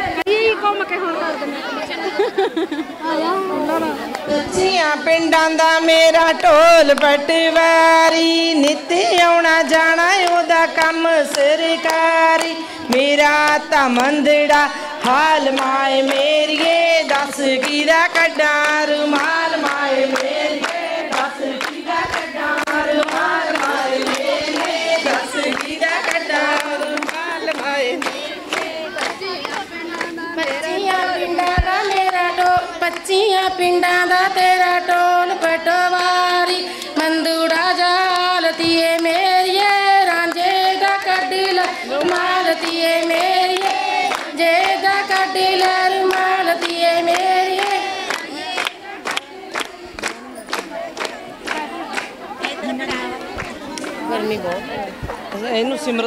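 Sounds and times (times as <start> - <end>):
women singing in chorus: 1.1 - 56.0
hand-claps keeping time: 6.4 - 55.4.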